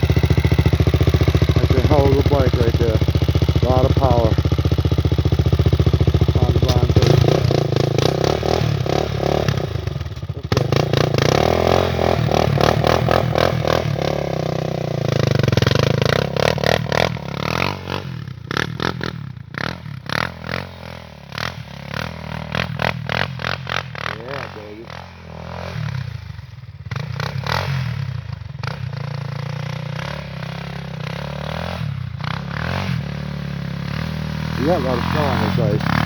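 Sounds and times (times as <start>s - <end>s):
quad engine revving: 0.0s - 36.0s.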